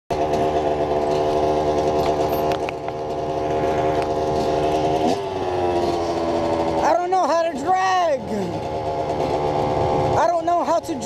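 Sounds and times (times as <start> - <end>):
dirt bike engine idling: 0.1 - 11.0.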